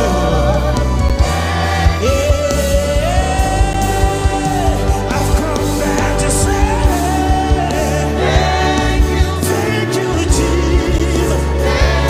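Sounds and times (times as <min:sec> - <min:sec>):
gospel band playing: 0:00.0 - 0:12.0
person singing: 0:00.0 - 0:12.0
drum beat: 0:00.1 - 0:12.0.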